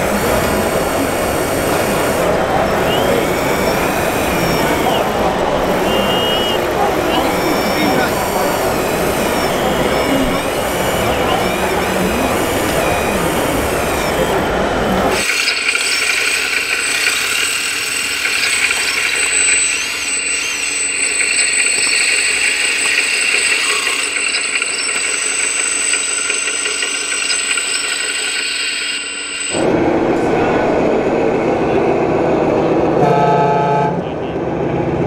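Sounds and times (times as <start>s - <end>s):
high-pitched electric motor whine: 0.0s - 30.7s.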